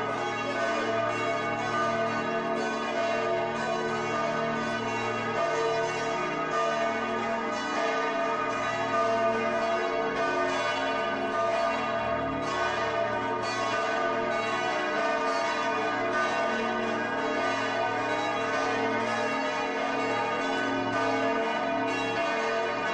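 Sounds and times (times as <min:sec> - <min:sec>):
church bells ringing: 0:00.0 - 0:22.9.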